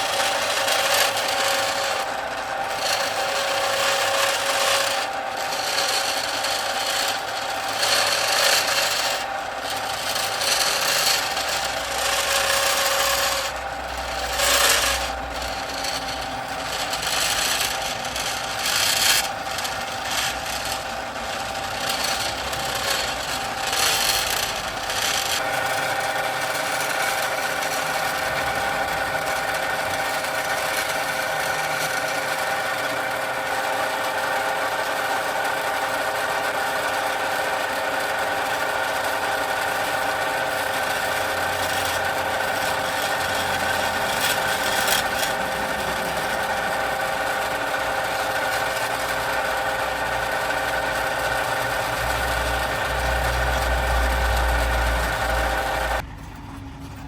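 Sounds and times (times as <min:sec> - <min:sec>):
hand file scraping: 0:00.0 - 0:56.0
small machine motor running: 0:00.0 - 0:57.0.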